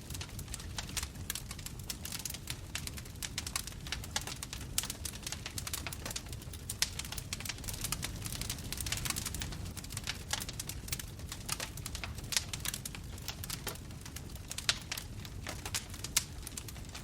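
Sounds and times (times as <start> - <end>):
bonfire crackling: 0.0 - 17.0
low rumble of flames: 0.0 - 17.0.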